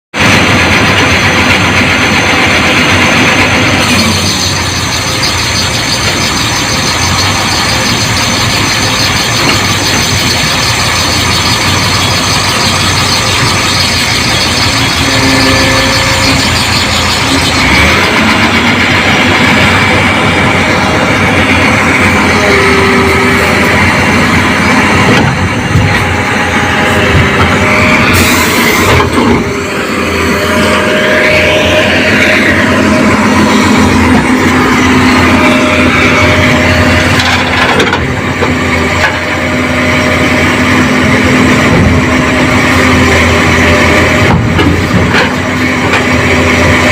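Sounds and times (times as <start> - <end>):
heavy diesel engine running: 0.1 - 46.9.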